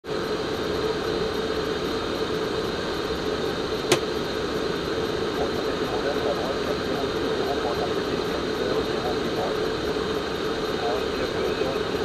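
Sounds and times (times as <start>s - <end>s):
cockpit airflow and air-conditioning hum: 0.1s - 12.0s.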